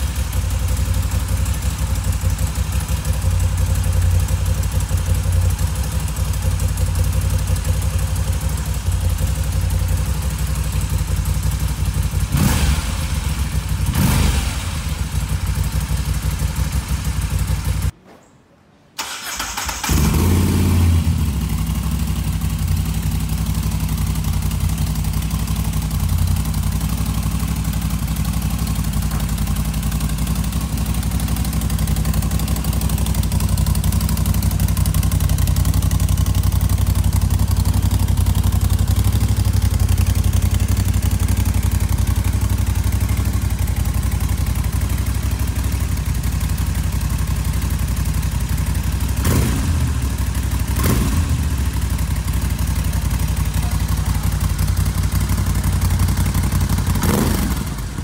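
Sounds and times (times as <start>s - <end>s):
motorcycle engine idling: 0.0s - 17.9s, 19.2s - 58.0s.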